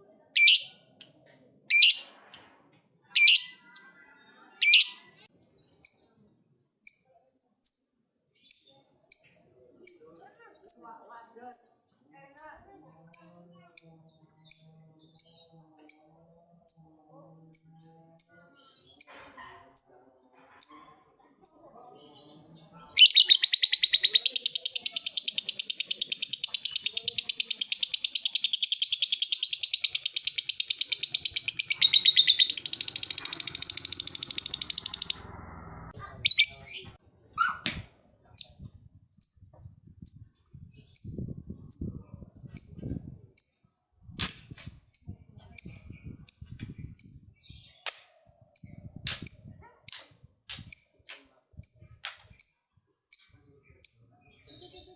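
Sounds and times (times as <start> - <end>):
lovebird chirps and chattering trill: 0.4 - 0.8, 1.7 - 2.1, 3.1 - 3.8, 4.6 - 35.2, 36.3 - 37.0, 38.4 - 54.9.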